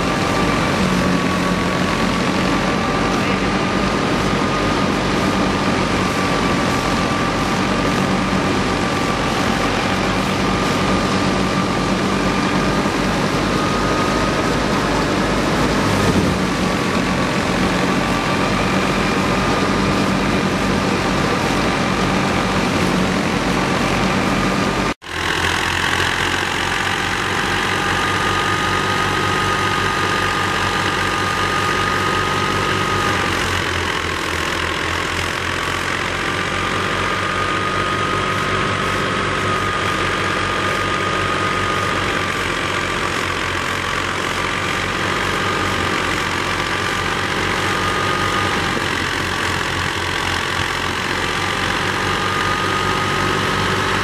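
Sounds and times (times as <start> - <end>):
steady high whine: 0.0 - 54.0
tractor engine running: 0.0 - 54.0.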